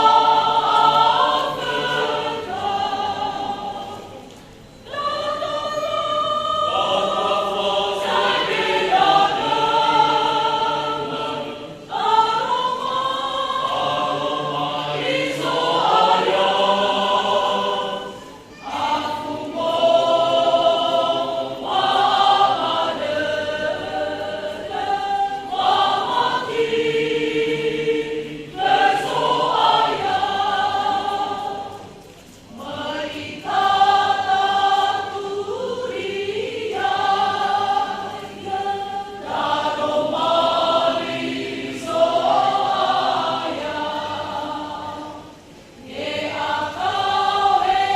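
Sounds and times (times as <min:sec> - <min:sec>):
choir singing a hymn: 0:00.0 - 0:47.9.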